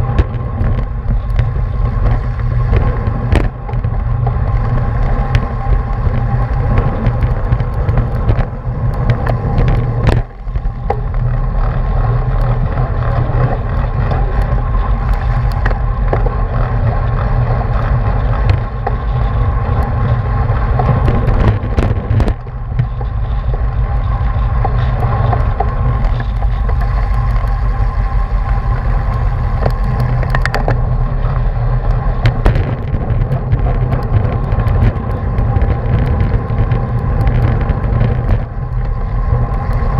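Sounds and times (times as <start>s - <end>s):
bike tyre and road noise: 0.0s - 39.9s
wind buffeting microphone: 0.0s - 39.9s.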